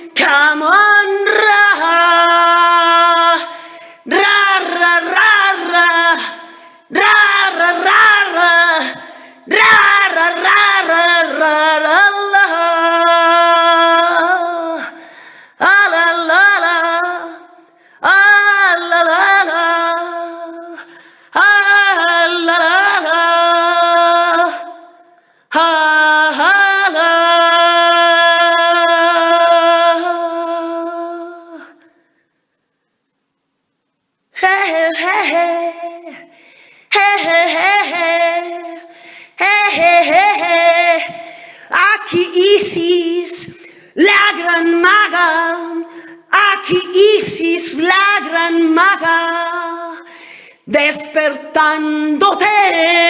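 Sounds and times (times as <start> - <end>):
woman singing unaccompanied: 0.0 - 32.0, 34.3 - 53.0.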